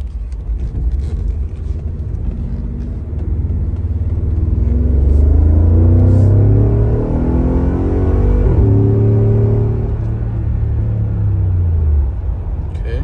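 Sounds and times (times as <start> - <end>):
car engine drone from inside cabin: 0.0 - 13.0.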